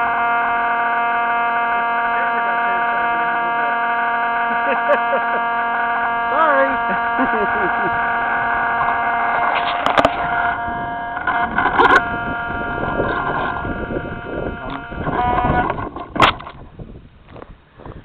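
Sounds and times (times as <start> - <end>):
model plane motor whining: 0.0 - 16.8.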